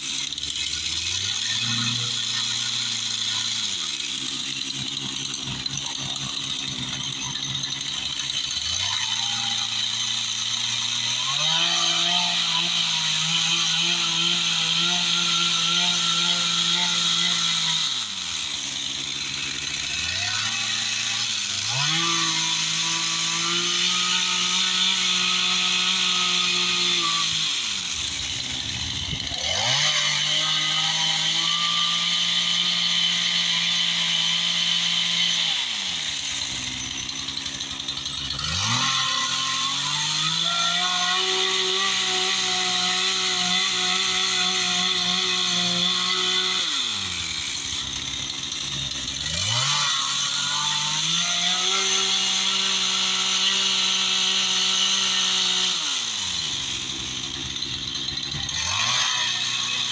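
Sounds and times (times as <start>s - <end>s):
chainsaw revving cutting wood: 0.0s - 59.9s.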